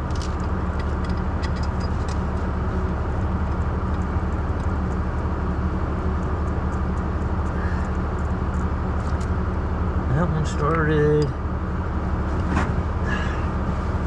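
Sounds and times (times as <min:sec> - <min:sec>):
low machine drone: 0:00.0 - 0:14.0.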